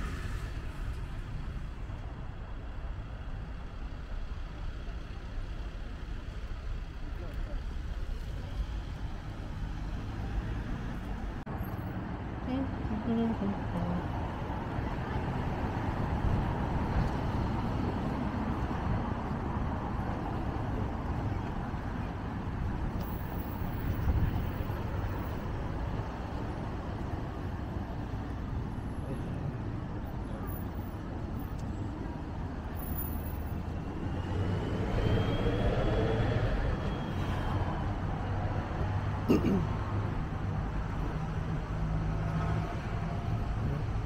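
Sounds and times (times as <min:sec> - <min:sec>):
road traffic passing: 0:00.0 - 0:44.0.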